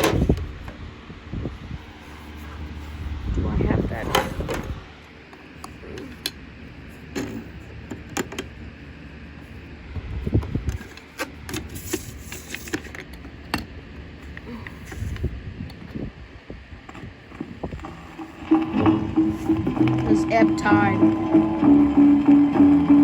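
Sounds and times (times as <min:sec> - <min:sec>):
fan hum: 0:00.0 - 0:23.0.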